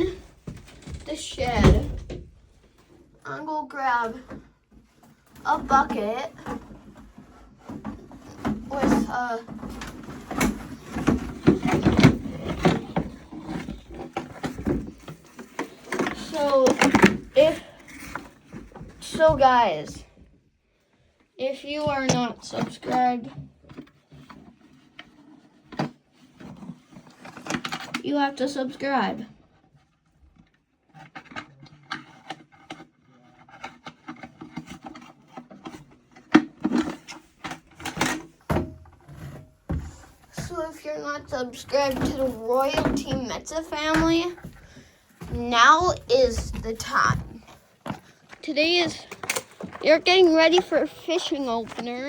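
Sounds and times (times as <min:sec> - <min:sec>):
objects knocking and clattering: 0:00.0 - 0:03.1, 0:03.9 - 0:20.4, 0:28.9 - 0:52.0.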